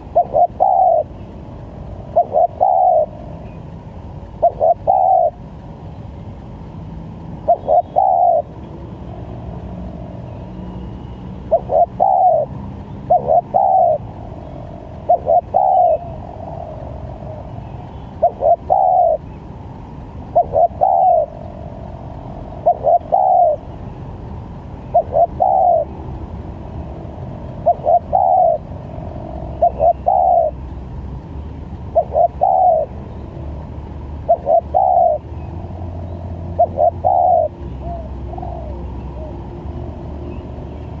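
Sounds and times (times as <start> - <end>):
dove cooing: 0.0 - 5.6, 7.4 - 19.4, 20.2 - 23.8, 24.8 - 26.1, 26.8 - 30.7, 31.8 - 33.2, 34.2 - 41.0
steady low rumble: 0.0 - 41.0.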